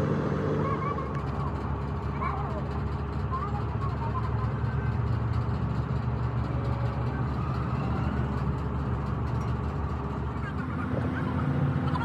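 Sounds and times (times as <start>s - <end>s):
heavy engine humming: 0.0s - 12.0s.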